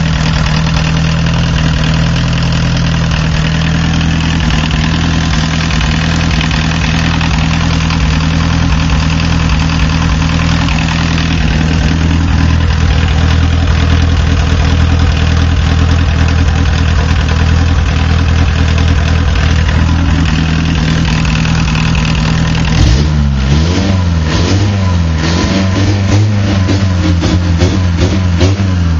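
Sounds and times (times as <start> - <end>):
diesel engine idling with misfire: 0.0 - 28.9.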